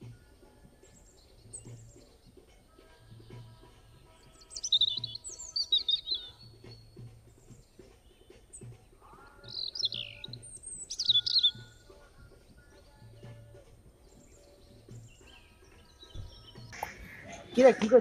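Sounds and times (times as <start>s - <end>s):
birds chirping: 0.0s - 18.0s
faint background music: 0.0s - 18.0s.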